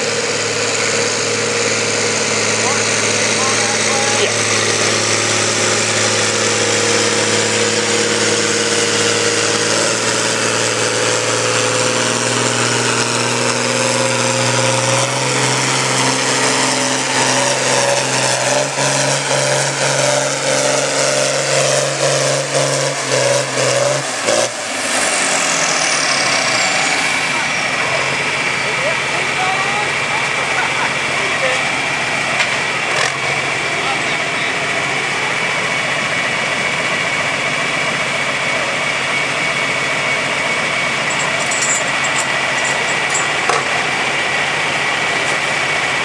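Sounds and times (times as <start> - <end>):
high falling whine: 0.0 - 46.0
tractor engine under load: 0.0 - 46.0.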